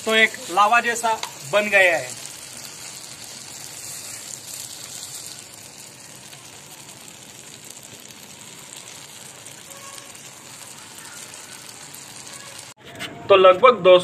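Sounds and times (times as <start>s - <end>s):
frying in boiling oil sizzling: 0.0s - 12.8s.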